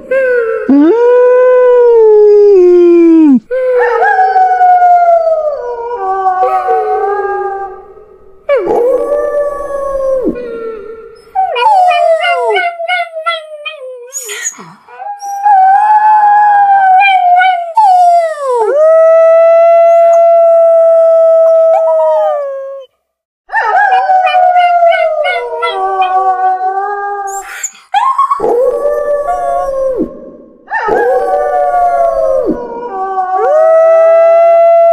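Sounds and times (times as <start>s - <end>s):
wolves and dogs howling: 3.5s - 14.3s, 14.9s - 22.9s, 23.5s - 27.4s, 28.0s - 34.9s.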